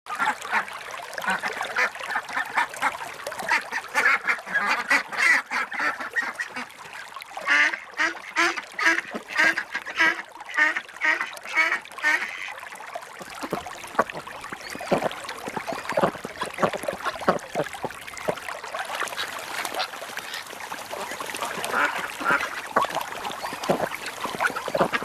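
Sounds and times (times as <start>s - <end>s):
flock of ducks quacking: 0.1s - 6.7s, 7.4s - 12.5s, 13.4s - 25.0s.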